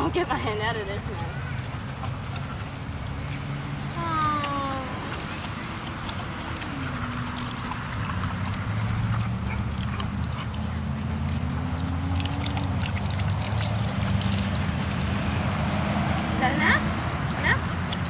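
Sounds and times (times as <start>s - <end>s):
dogs lapping water: 0.0s - 18.0s
running water: 0.0s - 18.0s.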